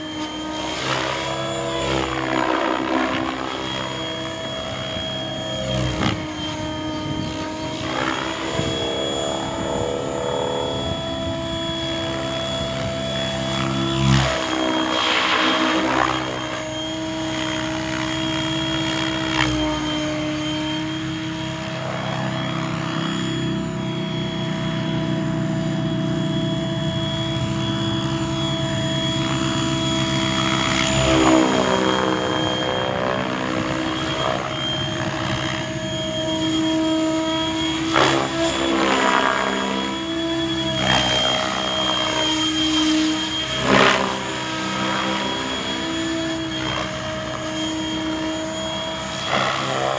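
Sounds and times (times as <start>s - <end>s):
helicopter swooshing passes: 0.0s - 49.9s
rc helicopter motor whine: 0.0s - 49.9s.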